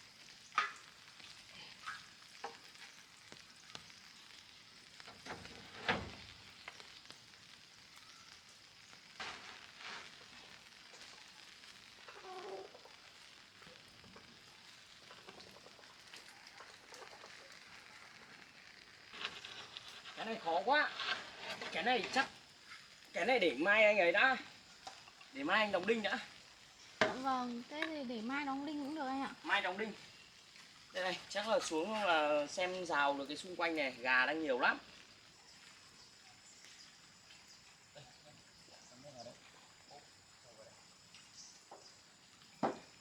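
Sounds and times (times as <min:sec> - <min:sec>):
faint crackling hiss: 0:00.0 - 0:43.0.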